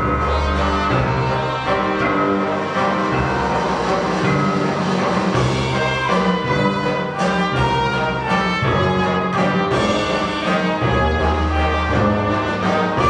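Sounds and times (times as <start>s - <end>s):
orchestral music with brass: 0.0s - 13.0s.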